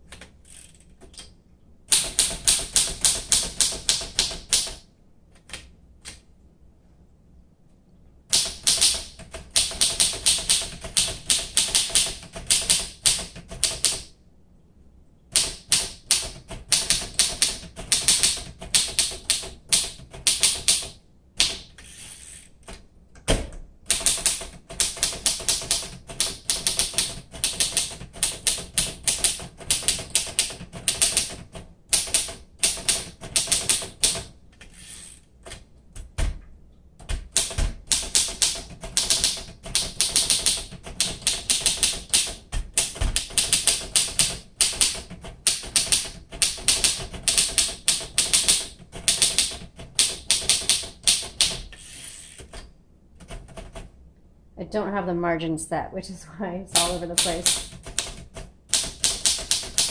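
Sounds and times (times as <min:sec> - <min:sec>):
manual typewriter typing: 0:01.9 - 0:04.8, 0:08.3 - 0:14.1, 0:15.3 - 0:22.8, 0:23.8 - 0:36.2, 0:37.0 - 0:53.9, 0:56.7 - 0:59.9.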